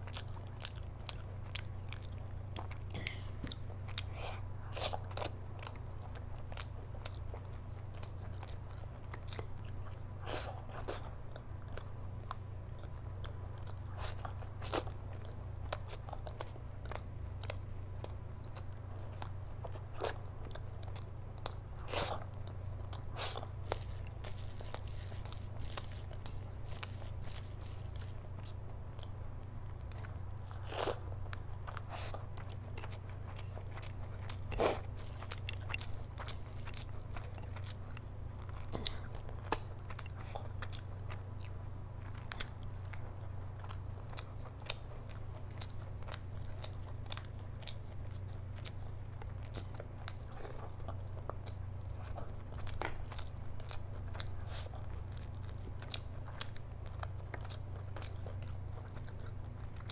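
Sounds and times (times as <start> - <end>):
steady low hum: 0.0 - 59.9
wet chewing and lip-smacking: 0.0 - 59.9.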